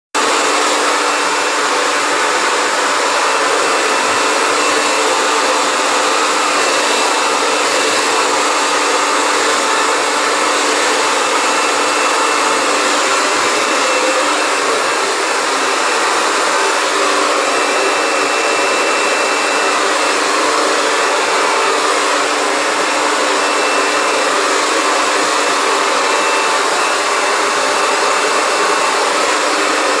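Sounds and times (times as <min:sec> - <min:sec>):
hair dryer running: 0:00.1 - 0:30.0.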